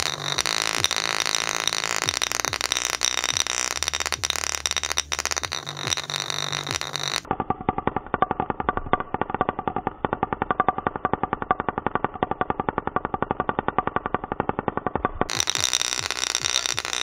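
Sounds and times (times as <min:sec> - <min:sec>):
ball rattling on speaker cone: 0:00.0 - 0:07.3, 0:08.3 - 0:17.0.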